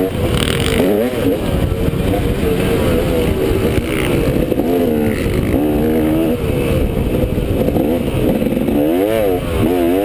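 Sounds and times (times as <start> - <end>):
motocross bike engine revving: 0.0 - 10.0
wind rumble on microphone: 0.0 - 10.0.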